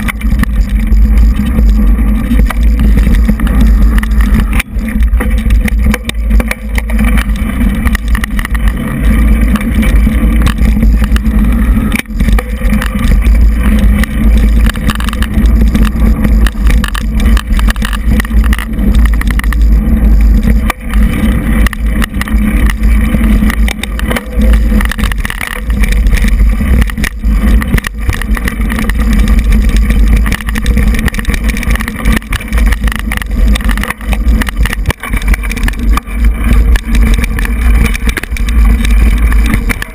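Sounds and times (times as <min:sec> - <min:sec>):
bike knocks and rattles: 0:00.0 - 0:39.9
wind and riding rumble: 0:00.0 - 0:39.9.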